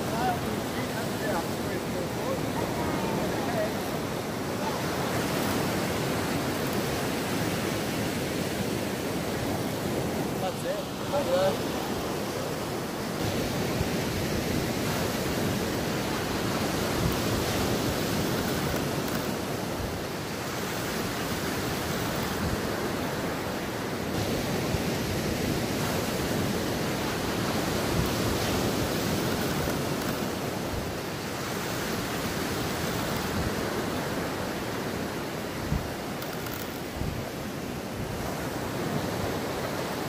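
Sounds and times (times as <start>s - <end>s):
surf breaking on beach: 0.0s - 40.0s.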